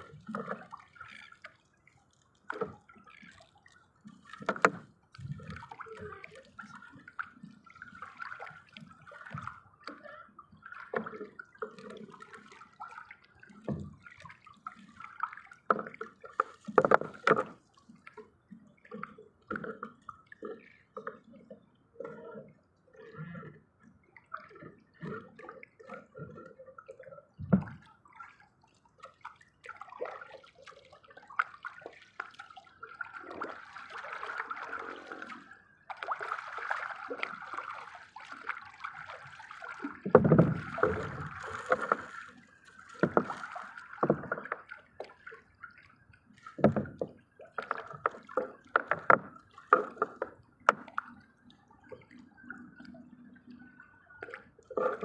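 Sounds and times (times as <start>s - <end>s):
water sloshing around a boat: 0.0s - 55.0s.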